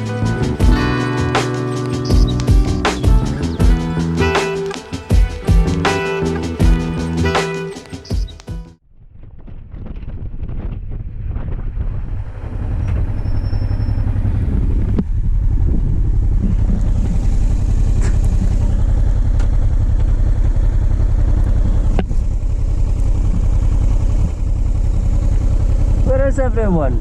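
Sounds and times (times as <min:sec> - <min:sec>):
motorcycle engine running: 0:00.0 - 0:08.8, 0:11.2 - 0:27.0.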